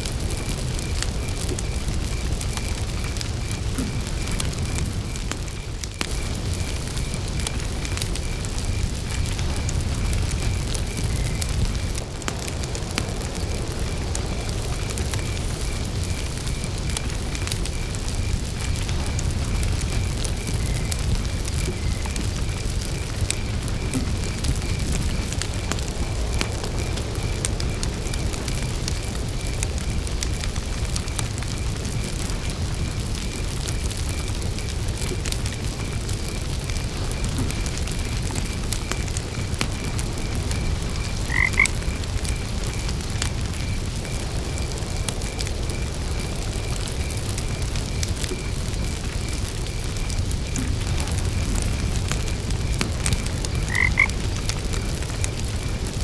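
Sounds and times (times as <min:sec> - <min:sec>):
campfire crackling: 0:00.0 - 0:56.0
frogs croaking: 0:00.0 - 0:56.0.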